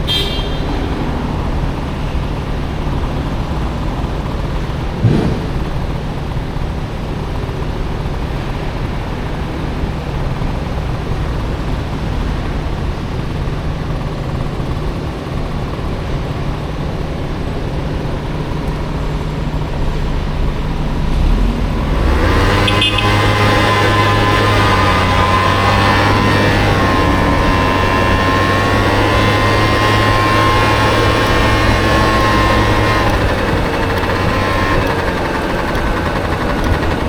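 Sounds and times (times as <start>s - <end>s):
city traffic: 0.0s - 37.0s
scooter engine running: 0.0s - 37.0s
steady pitched engine tone: 0.0s - 37.0s.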